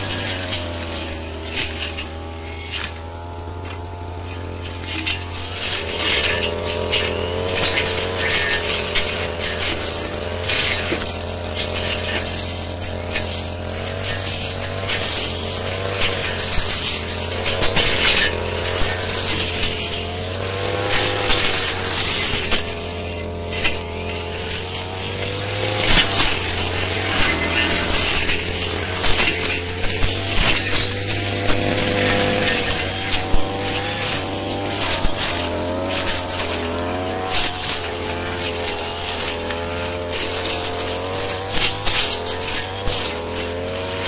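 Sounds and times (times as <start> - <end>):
blade slashing undergrowth: 0.0 - 44.0
brush cutter engine running: 0.0 - 44.0.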